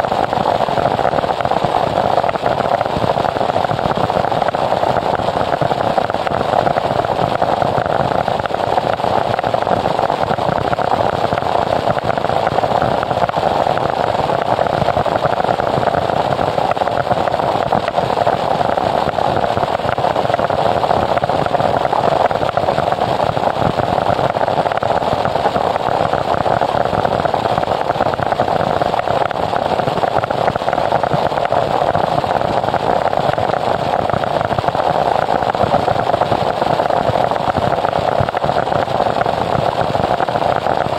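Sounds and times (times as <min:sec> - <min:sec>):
noise music static: 0:00.0 - 0:40.9.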